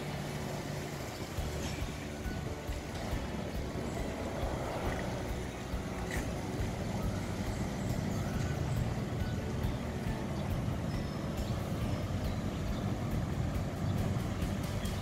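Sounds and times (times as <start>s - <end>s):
boat diesel engine rumbling: 0.0s - 15.0s.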